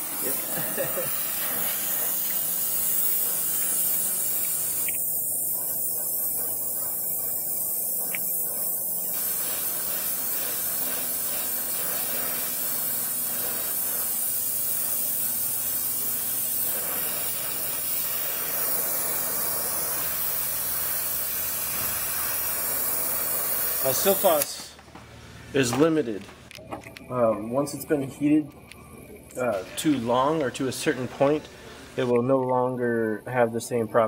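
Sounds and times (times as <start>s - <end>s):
torch flame hissing: 0.0s - 32.2s.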